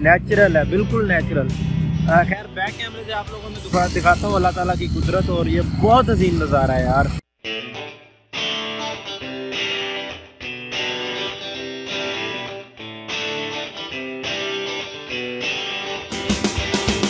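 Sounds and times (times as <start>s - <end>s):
plucked guitar music: 0.0s - 5.4s, 7.4s - 17.0s.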